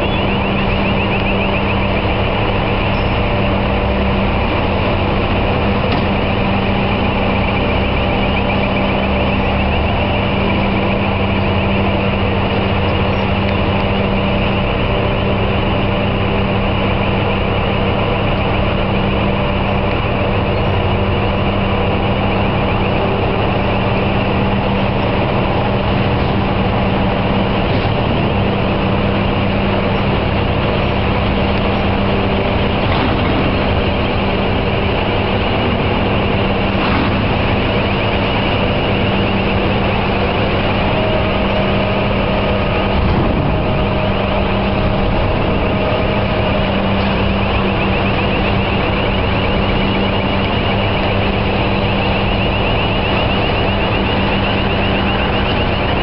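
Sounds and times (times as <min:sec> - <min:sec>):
heavy machinery droning: 0:00.0 - 0:56.0.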